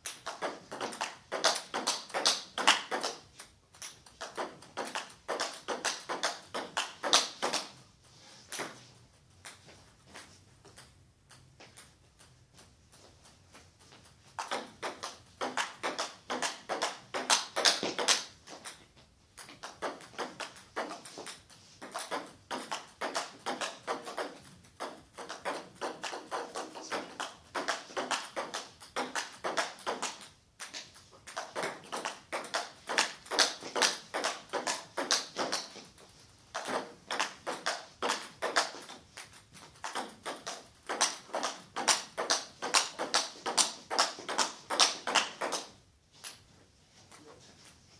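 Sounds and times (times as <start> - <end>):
table tennis ball clicking: 0.0 - 7.8, 14.0 - 46.4.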